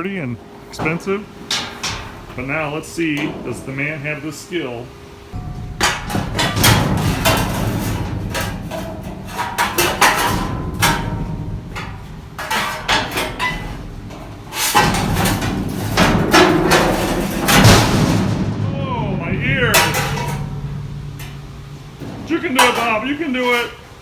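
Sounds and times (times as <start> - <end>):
low running hum: 0.0 - 24.0
metal banging and clattering: 0.4 - 24.0.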